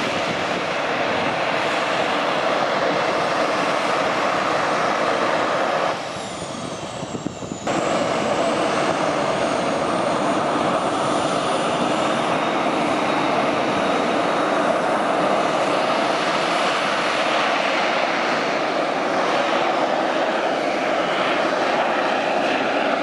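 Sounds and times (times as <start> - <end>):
jet engines roaring with whine: 0.0 - 23.0.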